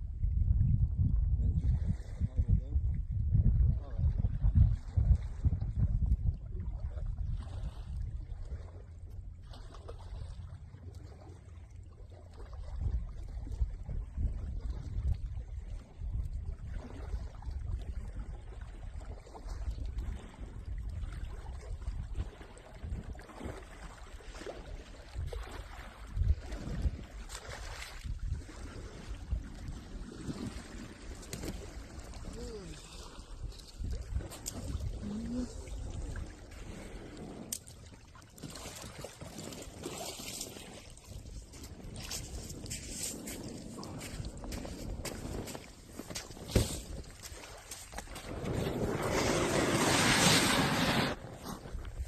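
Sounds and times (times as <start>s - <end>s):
wind buffeting microphone: 0.0s - 9.6s, 12.6s - 23.6s, 24.8s - 52.0s
water trickling and lapping: 1.6s - 52.0s.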